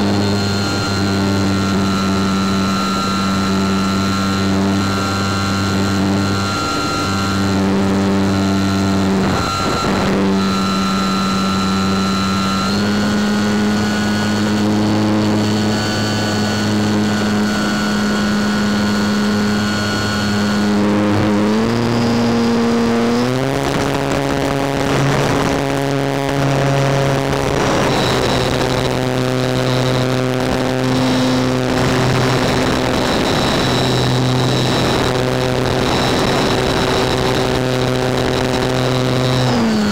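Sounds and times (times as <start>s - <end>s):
model plane motor and propeller: 0.0s - 39.9s.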